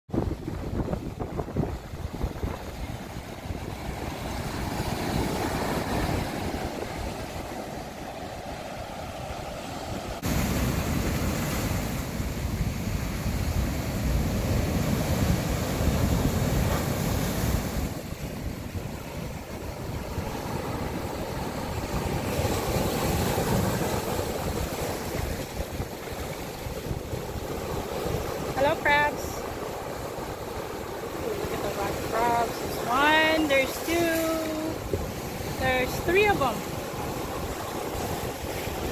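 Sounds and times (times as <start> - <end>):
wind buffeting microphone: 0.1 - 38.9
surf breaking over rocks: 0.2 - 38.9.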